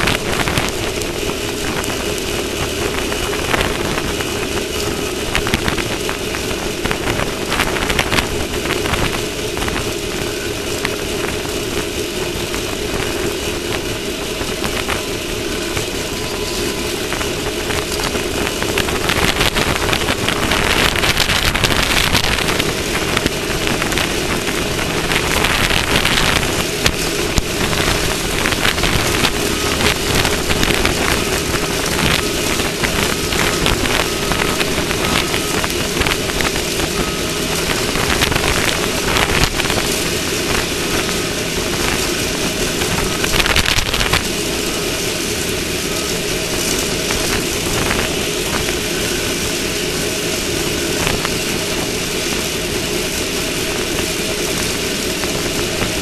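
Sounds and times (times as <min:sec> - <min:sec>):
ground noise: 0:00.0 - 0:56.0
hiss surges: 0:00.0 - 0:56.0
rush of wind: 0:00.0 - 0:56.0
vehicle engine running: 0:00.0 - 0:56.0.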